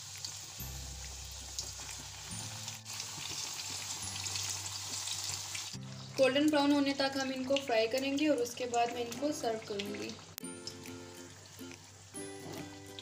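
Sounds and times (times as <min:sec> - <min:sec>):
oil sizzling in a pan: 0:00.0 - 0:13.0
soft background music: 0:00.0 - 0:13.0.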